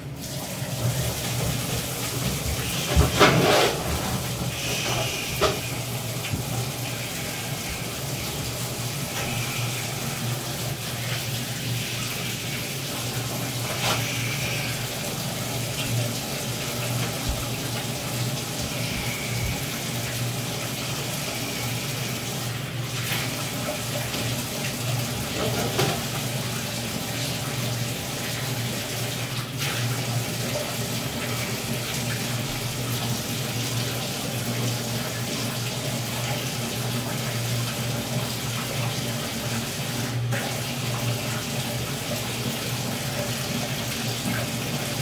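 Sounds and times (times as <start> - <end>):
faucet running into tub: 0.0 - 45.0.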